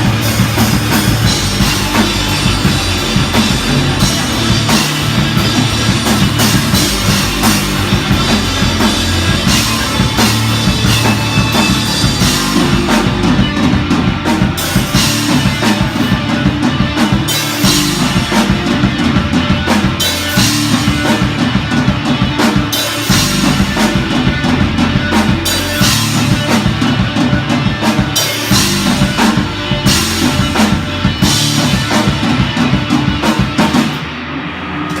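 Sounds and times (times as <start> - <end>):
bass drum and snare: 0.0 - 34.1
rock band playing: 0.0 - 35.0.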